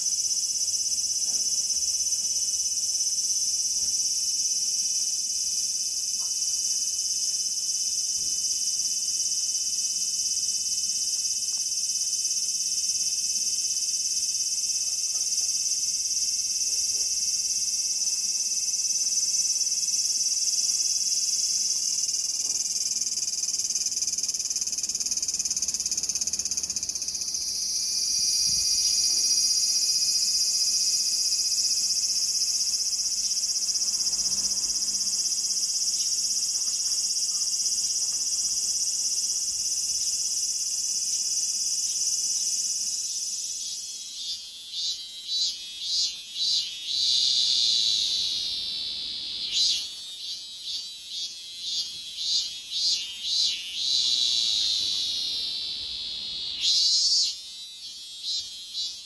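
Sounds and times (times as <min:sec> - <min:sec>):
cicada buzzing: 0:00.0 - 0:59.0.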